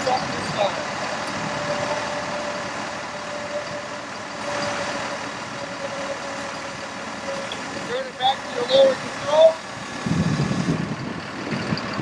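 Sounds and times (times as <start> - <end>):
thin steady whine: 0.0 - 10.6
diesel engine running: 0.0 - 12.0.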